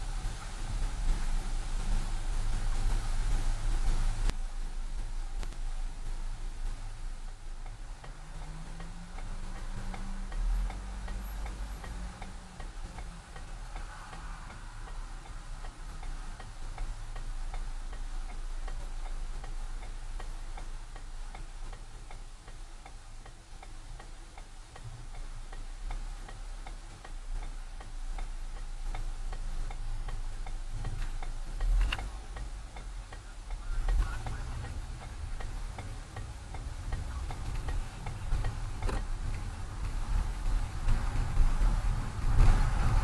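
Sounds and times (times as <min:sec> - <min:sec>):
engine hum: 0:00.0 - 0:43.0
turn signal ticking: 0:00.0 - 0:43.0.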